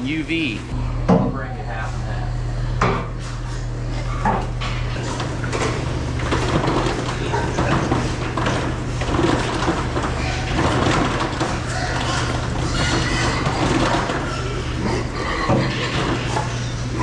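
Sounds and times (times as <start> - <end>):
pigs grunting and squealing: 1.4 - 17.0
trotters on slatted floor: 2.8 - 17.0.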